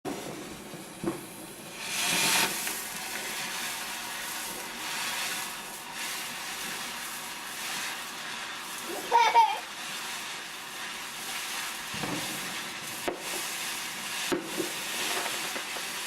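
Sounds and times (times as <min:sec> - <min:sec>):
steady hissing: 0:00.1 - 0:16.0.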